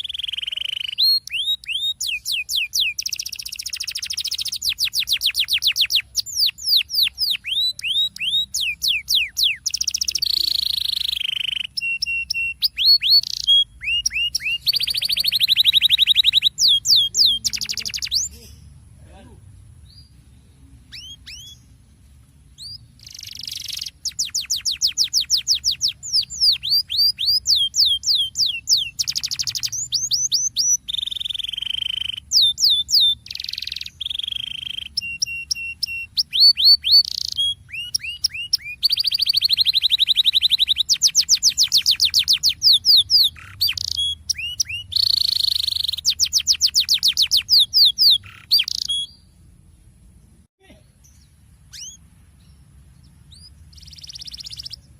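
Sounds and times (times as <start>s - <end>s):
canary singing trills: 0.0s - 49.4s, 50.2s - 54.9s.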